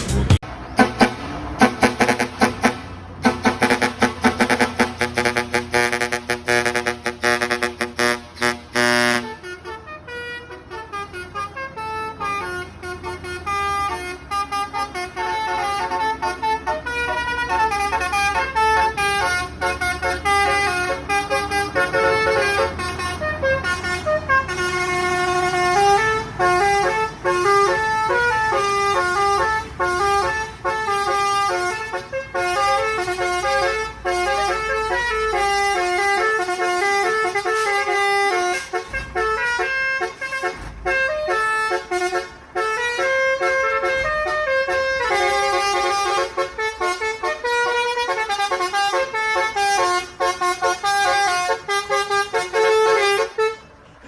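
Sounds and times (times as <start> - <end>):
truck engine hum: 0.0 - 54.0
truck musical horn melody: 0.0 - 54.0.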